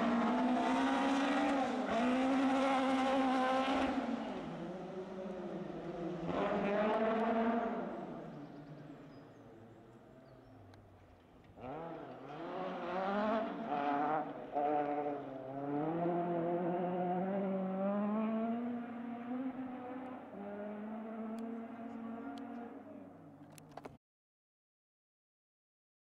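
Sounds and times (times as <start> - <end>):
rally car engine accelerating: 0.0 - 9.2, 11.5 - 23.7.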